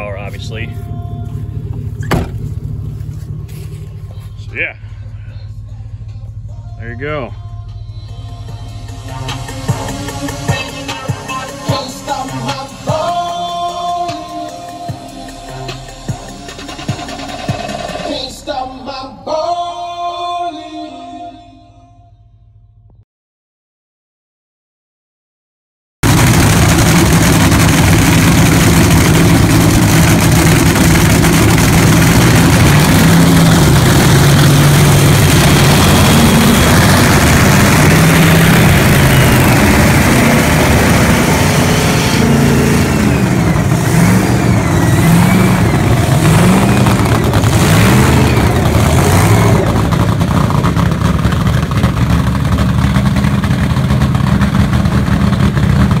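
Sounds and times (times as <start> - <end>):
subwoofer playing bass music: 0.0 - 22.2, 26.0 - 51.3.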